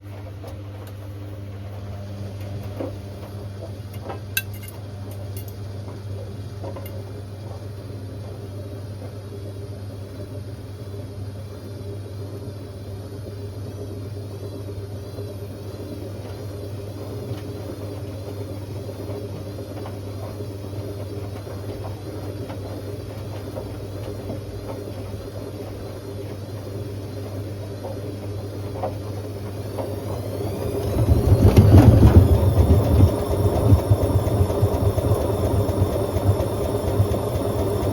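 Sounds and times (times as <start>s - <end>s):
washing machine motor hum: 0.0s - 37.9s.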